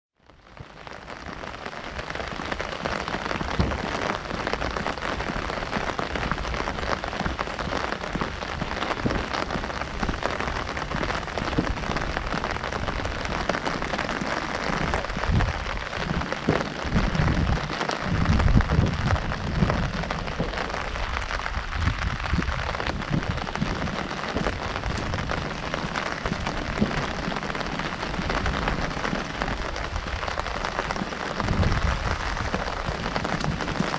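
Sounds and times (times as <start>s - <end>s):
heavy rain on an umbrella: 0.1s - 33.9s.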